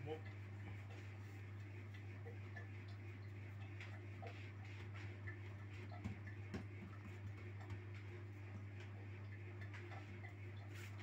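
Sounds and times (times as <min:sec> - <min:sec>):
faint ticks and soft knocks: 0:00.0 - 0:11.0.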